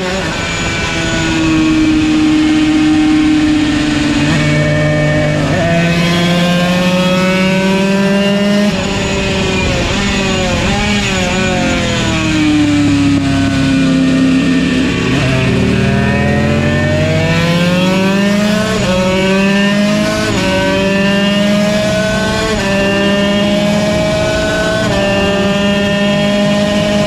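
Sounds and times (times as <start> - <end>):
two-stroke racing engine accelerating: 0.0 - 27.0.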